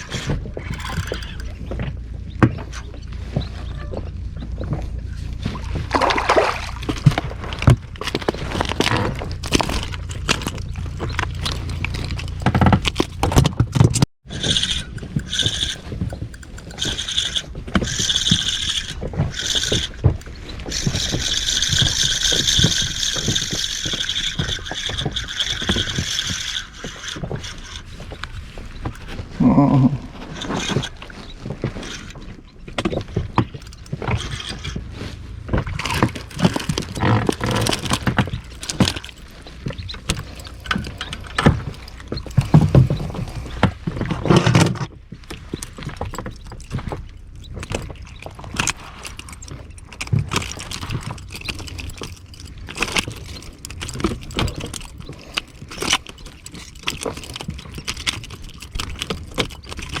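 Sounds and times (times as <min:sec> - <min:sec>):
fishing gear rattling in boat: 0:00.0 - 1:00.0.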